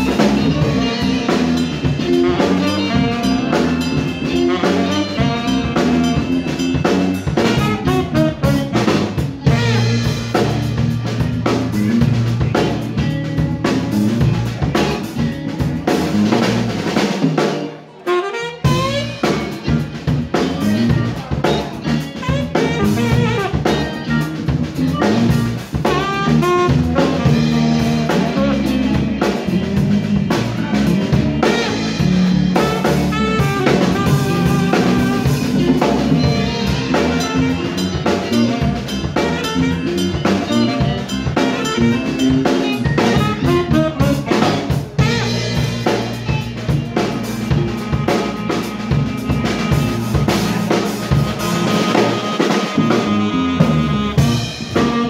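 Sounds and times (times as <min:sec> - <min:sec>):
tenor saxophone: 0:00.0 - 0:14.2, 0:16.1 - 0:55.0
drum kit with snare rimshots: 0:00.0 - 0:55.0
electric bass: 0:00.0 - 0:55.0
electric guitar: 0:00.0 - 0:55.0.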